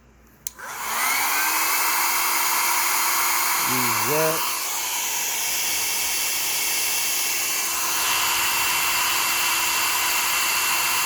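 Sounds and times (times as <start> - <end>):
hot-air dryer fan hiss: 0.5 - 11.0.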